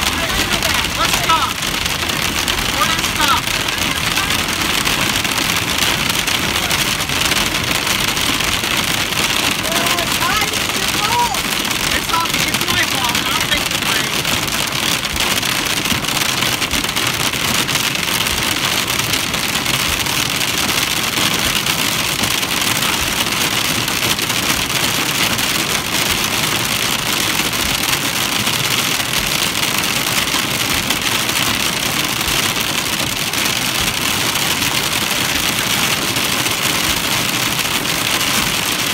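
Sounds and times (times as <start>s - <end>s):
heavy rain on car windshield: 0.0s - 38.9s.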